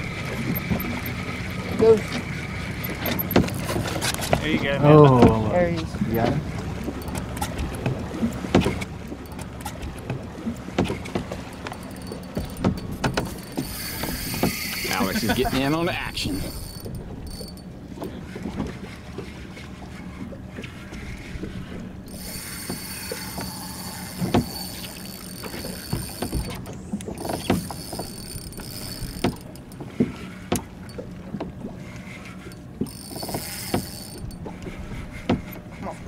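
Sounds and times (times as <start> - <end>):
boat motor humming: 0.0 - 36.0
water noise: 0.0 - 36.0
wind: 0.0 - 36.0.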